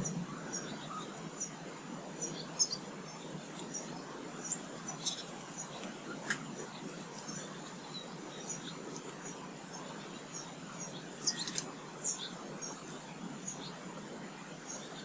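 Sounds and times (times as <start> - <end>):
songbirds chirping: 0.0 - 15.0
steady background noise: 0.0 - 15.0.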